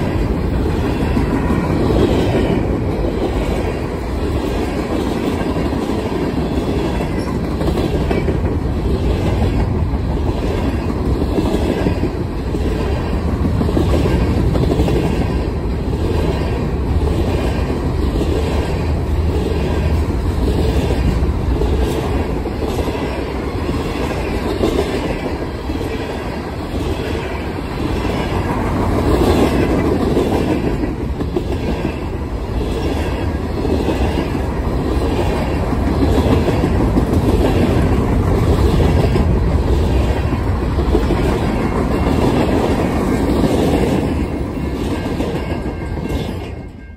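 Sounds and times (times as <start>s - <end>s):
freight train rolling past: 0.0s - 46.9s
wheels clickety-clack: 0.0s - 46.9s.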